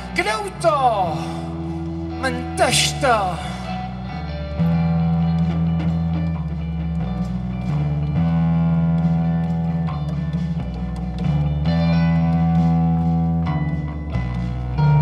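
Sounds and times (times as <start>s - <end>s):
bass: 0.0s - 15.0s
drums: 0.0s - 15.0s
electric guitar: 0.0s - 15.0s.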